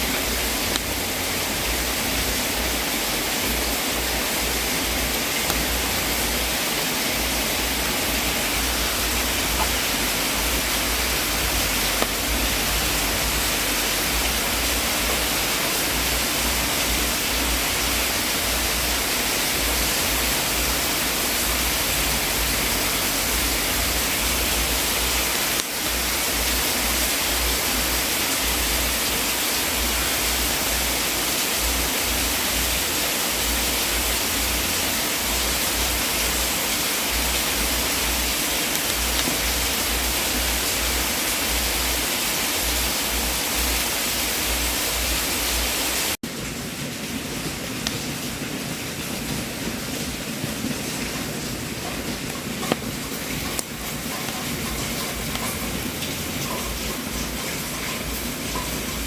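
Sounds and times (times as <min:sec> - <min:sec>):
wood fire hissing: 0:00.0 - 0:46.2, 0:47.5 - 0:59.0.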